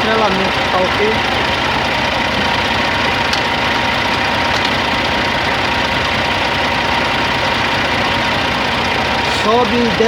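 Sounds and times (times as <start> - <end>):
truck diesel engine idling: 0.0 - 10.0.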